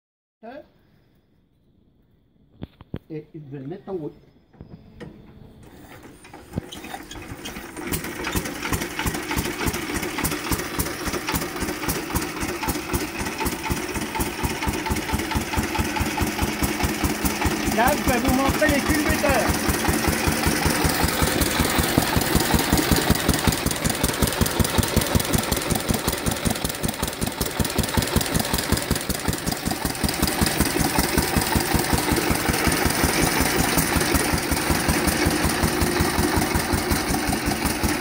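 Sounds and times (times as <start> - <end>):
tractor engine running: 4.5 - 38.0.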